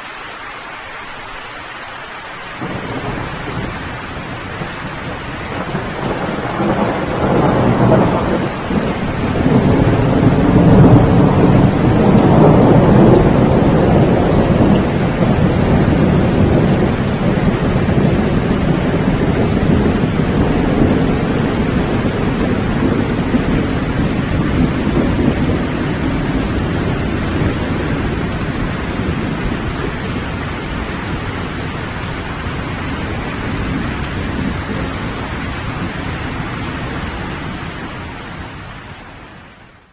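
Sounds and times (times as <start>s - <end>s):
steady rain: 0.0s - 39.9s
rolling thunder rumble: 2.6s - 38.6s.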